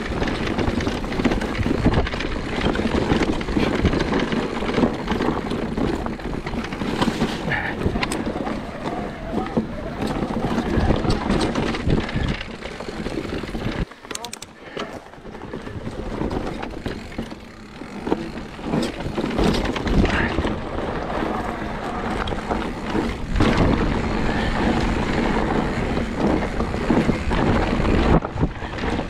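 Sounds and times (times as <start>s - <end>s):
wind on microphone: 0.0s - 13.9s, 15.2s - 29.0s
bike rattling over bumps: 0.0s - 29.0s
tyres on dirt: 0.0s - 29.0s.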